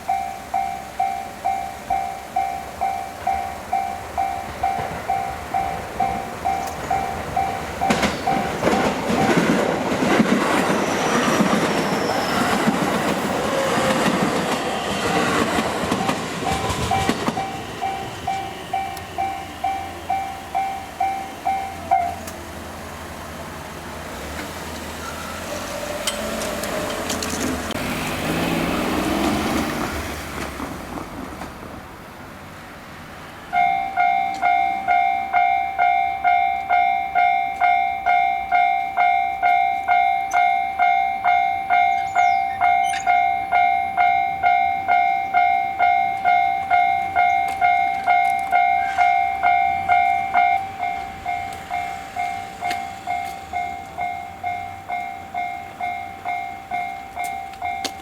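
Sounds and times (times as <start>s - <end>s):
crossing warning bell clanging: 0.0s - 27.9s, 33.4s - 58.0s
train rumbling: 0.0s - 58.0s.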